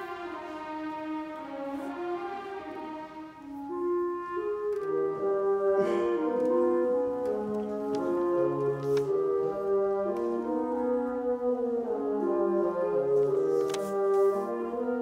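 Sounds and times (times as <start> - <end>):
orchestra playing long held notes: 0.0 - 15.0.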